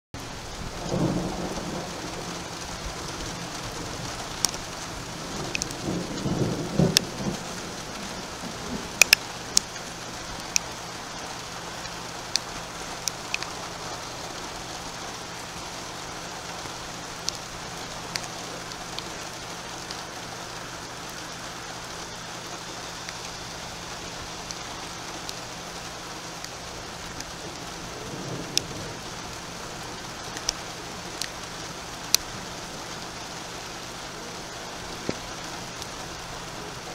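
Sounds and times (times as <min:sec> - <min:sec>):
steady rain falling: 0:00.2 - 0:36.9.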